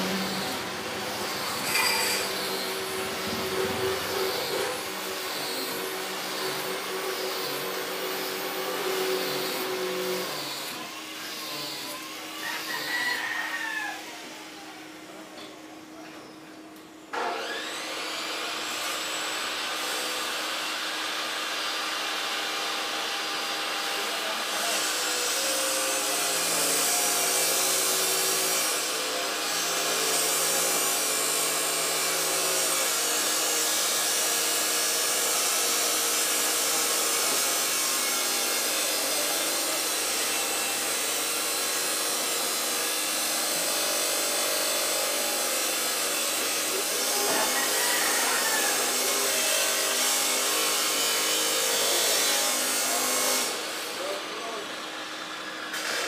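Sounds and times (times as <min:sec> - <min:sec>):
power tool grinding metal: 0:00.0 - 0:12.9, 0:17.1 - 0:56.0.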